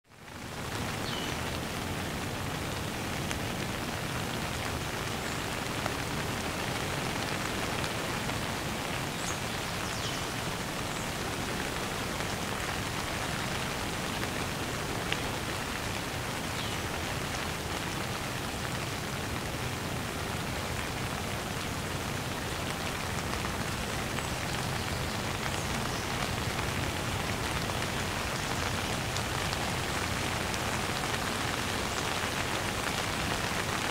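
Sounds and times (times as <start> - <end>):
heavy rain: 0.1 - 33.9.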